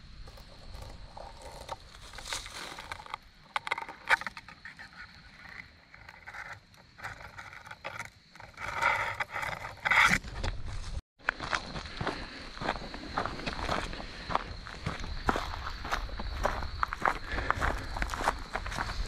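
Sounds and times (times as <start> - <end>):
footsteps crunching on rocky trail: 0.3 - 19.0.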